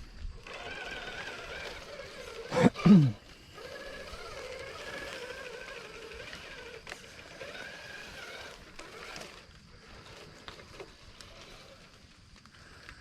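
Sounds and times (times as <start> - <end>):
electric motor whining: 0.0 - 12.1.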